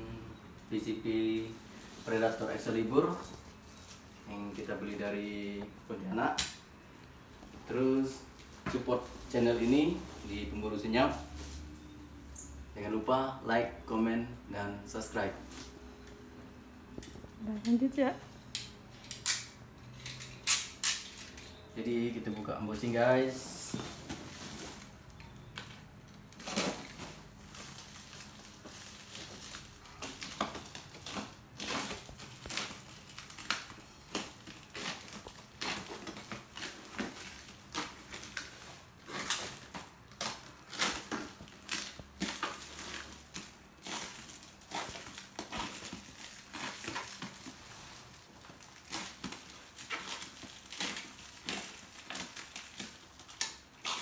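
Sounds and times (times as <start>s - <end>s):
packaging crinkling and rustling: 0.7s - 12.9s, 19.5s - 54.0s.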